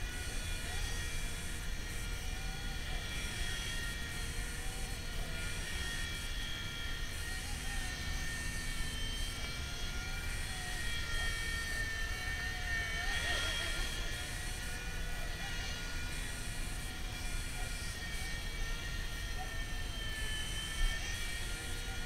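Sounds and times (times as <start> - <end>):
toy helicopter motor whine: 0.0 - 22.0.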